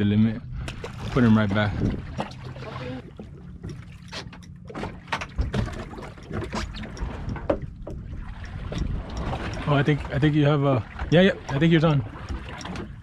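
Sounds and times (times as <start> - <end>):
low steady hum: 0.0 - 13.0
water slapping against hull: 0.0 - 13.0.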